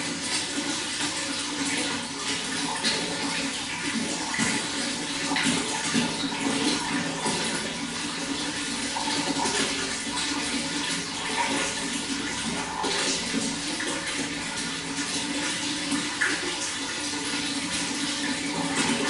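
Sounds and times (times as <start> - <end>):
water splashing and gurgling: 0.0 - 19.0.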